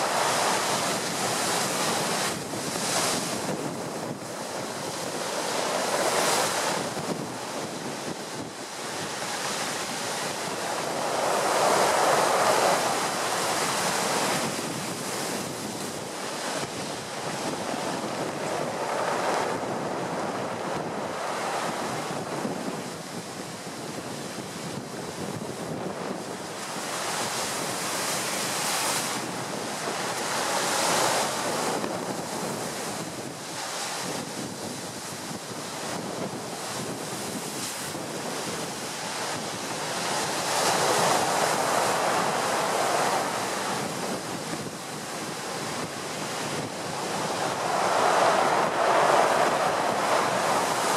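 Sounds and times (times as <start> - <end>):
storm surf crashing against sea wall: 0.0 - 50.9
wind buffeting microphone: 0.0 - 50.9.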